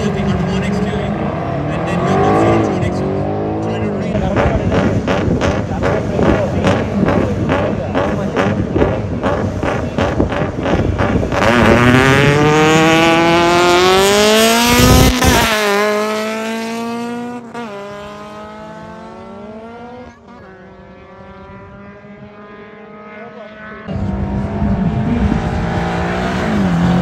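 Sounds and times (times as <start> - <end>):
race car engine accelerating: 0.0 - 27.0.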